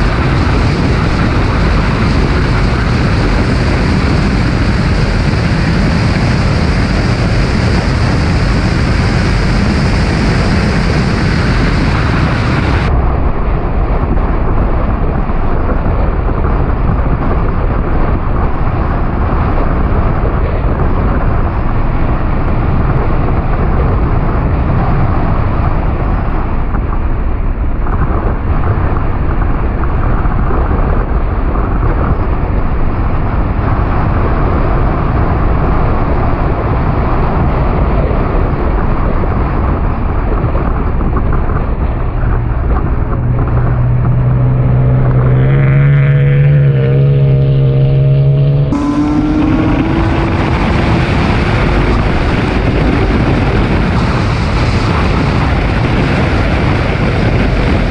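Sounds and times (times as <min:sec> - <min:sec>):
race car engine: 0:00.0 - 0:57.9
wind noise: 0:00.0 - 0:57.9.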